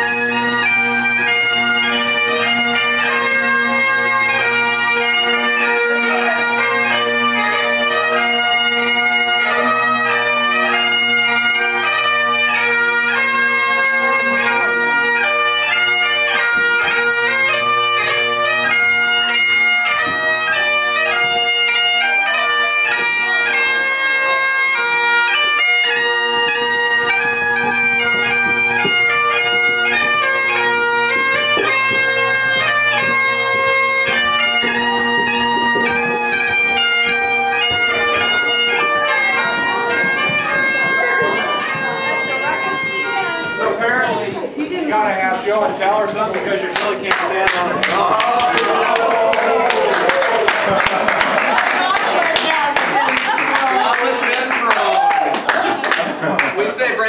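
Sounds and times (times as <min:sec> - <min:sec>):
bagpipe playing a tune: 0:00.0 - 0:48.7.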